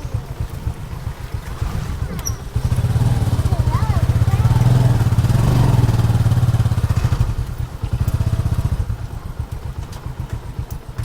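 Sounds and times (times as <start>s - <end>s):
motorcycle engine throbbing: 0.0s - 11.0s.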